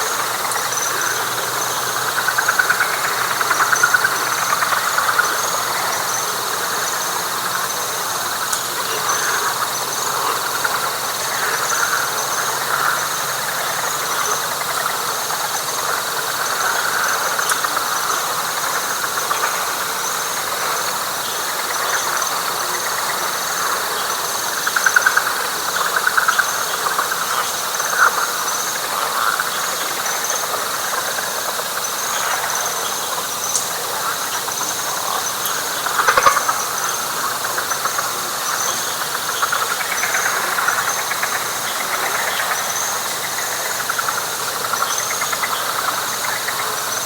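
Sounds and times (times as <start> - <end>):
high insect trill: 0.0 - 47.0
loud rapid pulsing frog call: 0.0 - 47.0
pulsing frog chorus: 0.0 - 47.0.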